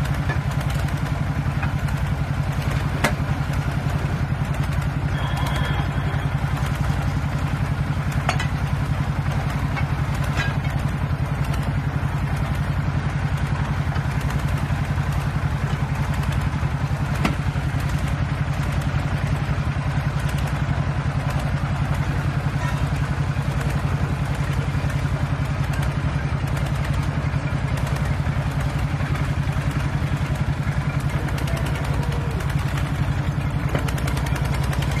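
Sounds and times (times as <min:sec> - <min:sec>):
tractor engine running under load: 0:00.0 - 0:35.0.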